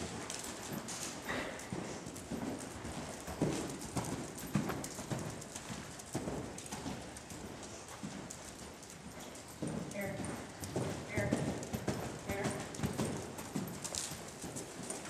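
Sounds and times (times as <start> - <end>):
horse hoofbeats on dirt: 0.0 - 15.0.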